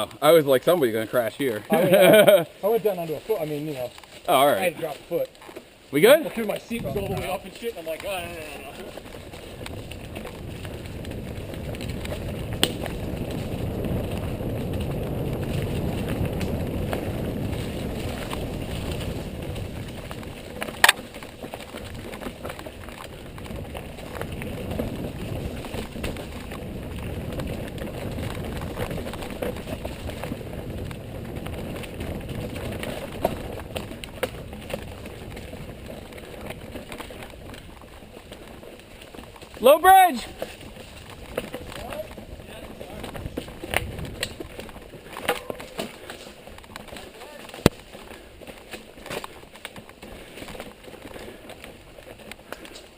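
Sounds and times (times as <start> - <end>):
bike tyres rumbling on dirt: 0.0 - 52.9.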